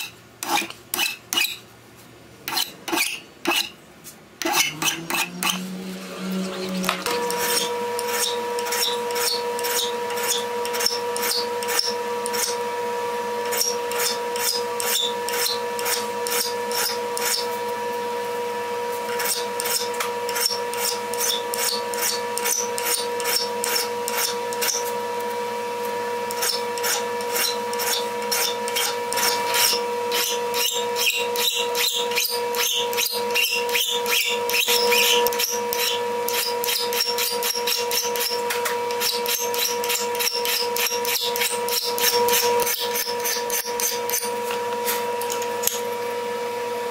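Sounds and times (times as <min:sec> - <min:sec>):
file rasping on steel: 0:00.0 - 0:01.6, 0:02.4 - 0:03.8, 0:04.4 - 0:12.6, 0:13.4 - 0:17.7, 0:18.9 - 0:25.3, 0:26.2 - 0:45.9.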